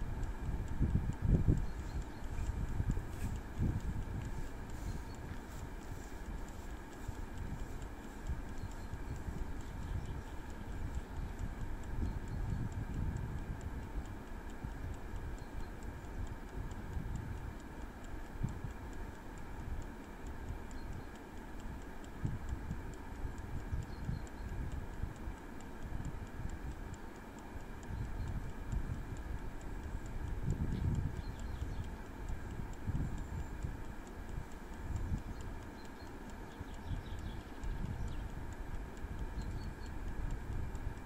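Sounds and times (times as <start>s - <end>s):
wind rumble on microphone: 0.0s - 17.5s, 20.4s - 27.0s, 27.6s - 41.0s
air fryer fan: 0.0s - 41.0s
timer dial ticking: 0.0s - 41.0s.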